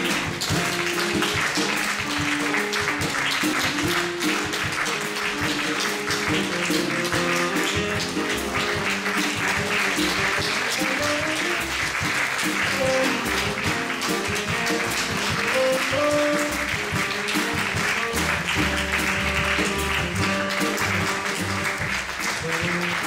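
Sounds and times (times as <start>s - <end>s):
audience applauding: 0.0s - 23.0s
music playing: 0.0s - 23.0s.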